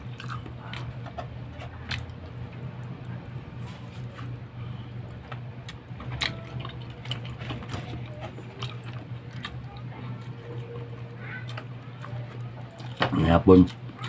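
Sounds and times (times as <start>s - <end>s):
chewing: 0.0s - 4.3s, 5.0s - 14.0s
steady low hum: 0.0s - 14.0s.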